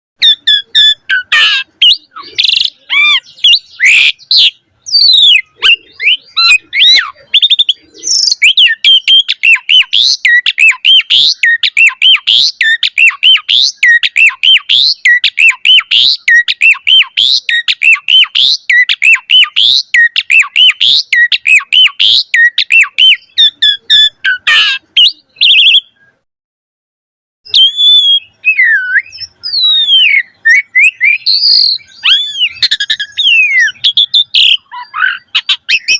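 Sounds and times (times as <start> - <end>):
starling whistled song: 0.2 - 26.2, 27.5 - 35.9.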